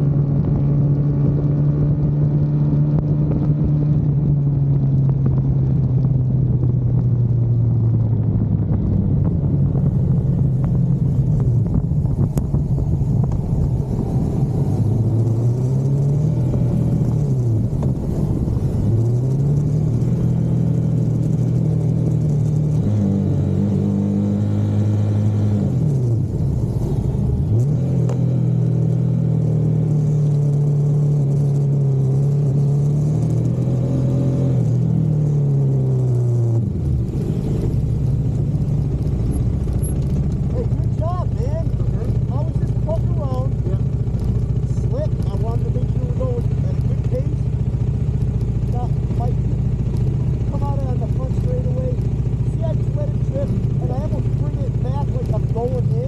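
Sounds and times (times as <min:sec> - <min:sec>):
racing car engine: 0:08.8 - 0:56.0.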